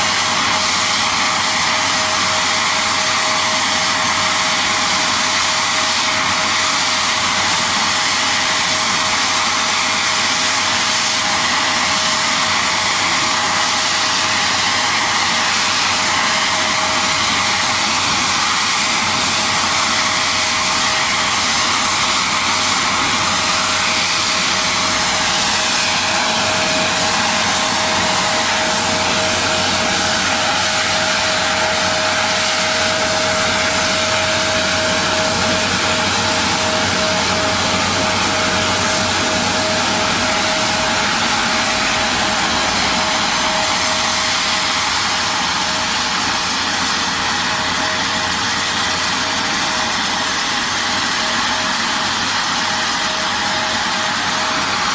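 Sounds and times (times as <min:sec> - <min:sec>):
constant machine whine: 0:00.0 - 0:54.9
de-icing machinery hissing: 0:00.0 - 0:54.9.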